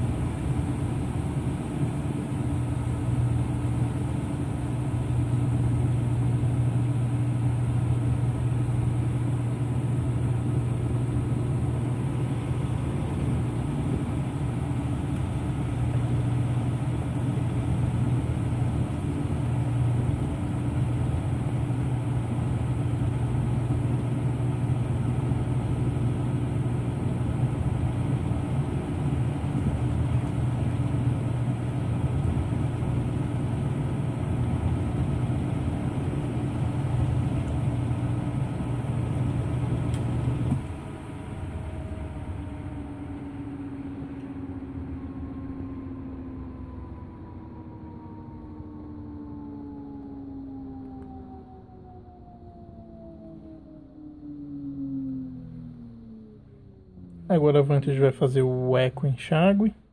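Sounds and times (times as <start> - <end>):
washing machine spinning: 0.0 - 57.5.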